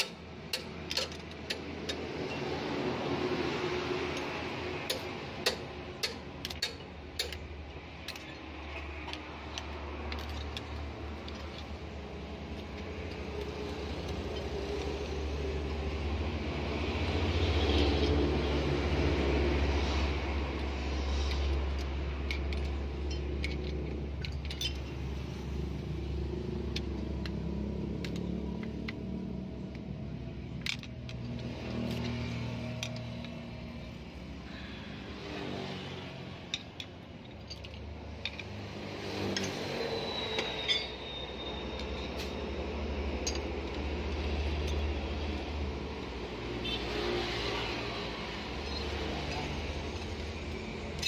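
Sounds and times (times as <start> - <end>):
metal tools clinking on engine: 0.0 - 2.8, 4.0 - 18.5, 20.4 - 34.6, 35.2 - 45.1, 48.4 - 51.0.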